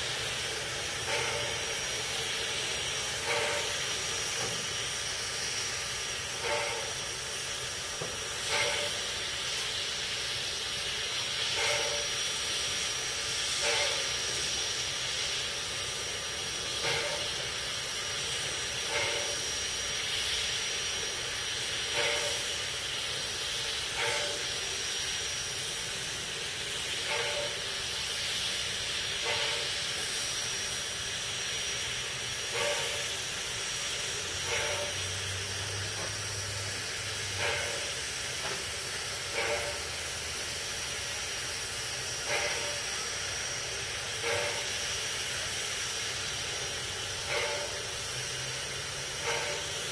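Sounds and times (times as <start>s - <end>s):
short steam beat: 0.0s - 49.9s
steam hissing: 0.0s - 49.9s.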